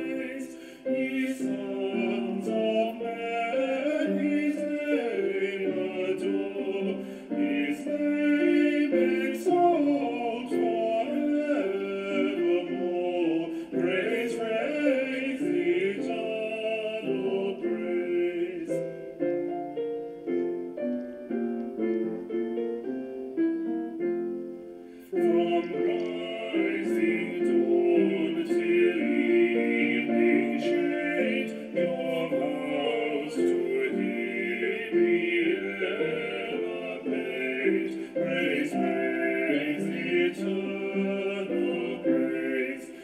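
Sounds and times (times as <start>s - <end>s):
person singing with vibrato: 0.0s - 23.4s, 24.8s - 43.0s
piano accompaniment: 0.0s - 43.0s.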